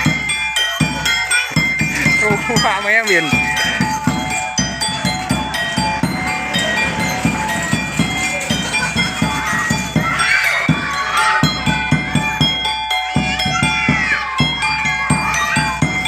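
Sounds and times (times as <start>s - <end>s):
drum beaten in fast rhythm: 0.0s - 16.0s
ringing metallic tones: 0.0s - 16.0s
wavering high sound: 0.0s - 16.0s.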